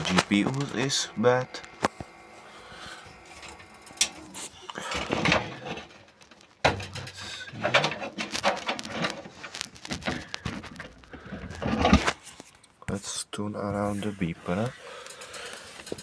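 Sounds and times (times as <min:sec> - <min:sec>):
hands handling computer parts: 0:00.0 - 0:13.0, 0:13.6 - 0:16.0.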